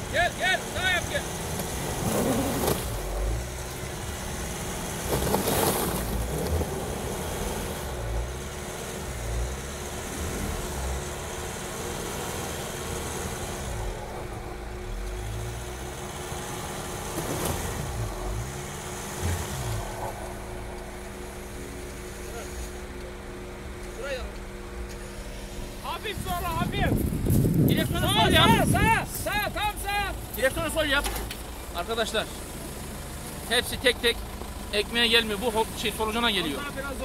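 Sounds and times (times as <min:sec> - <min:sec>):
pickup engine revving: 0:00.0 - 0:37.0
tyres churning through snow: 0:00.0 - 0:37.0.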